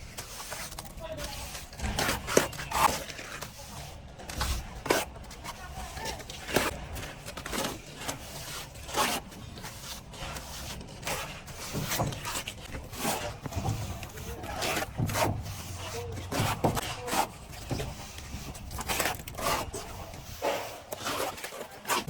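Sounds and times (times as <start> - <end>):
trowel scraping a wall: 0.0 - 22.0.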